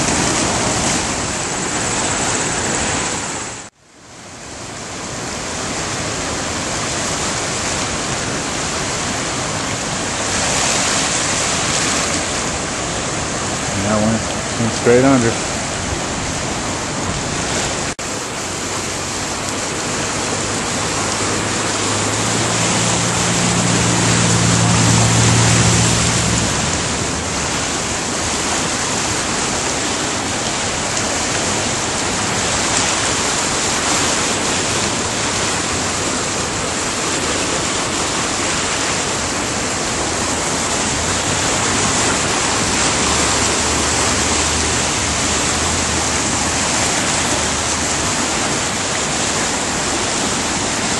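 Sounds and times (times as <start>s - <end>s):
floodwater rushing: 0.0s - 50.9s.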